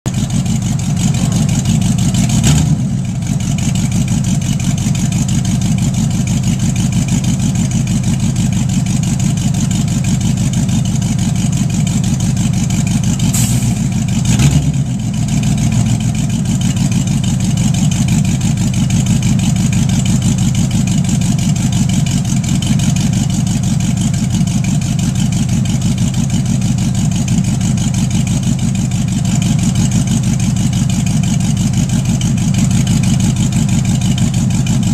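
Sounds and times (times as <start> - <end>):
car engine idling loudly: 0.0 - 34.9.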